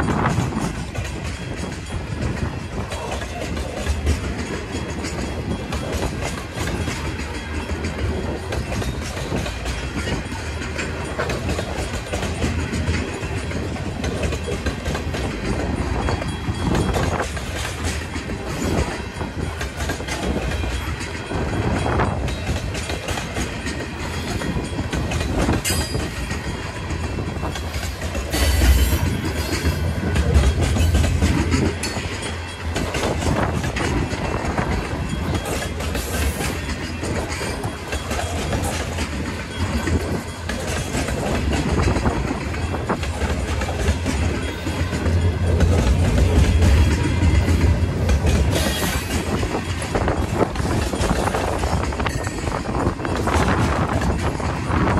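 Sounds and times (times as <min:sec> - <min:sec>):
train rumbling: 0:00.0 - 0:54.9
train wheels clacking on rail joints: 0:00.0 - 0:54.9.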